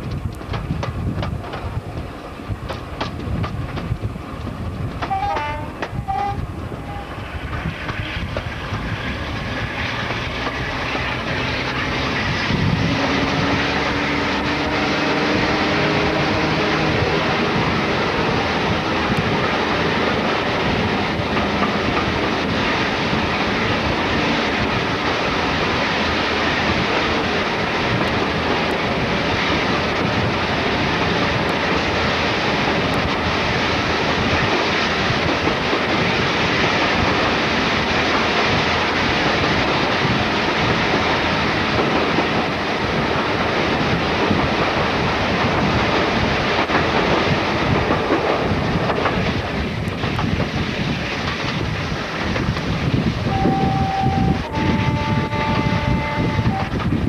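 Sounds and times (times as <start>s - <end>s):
train wheels rumbling in tunnel: 0.0s - 57.0s.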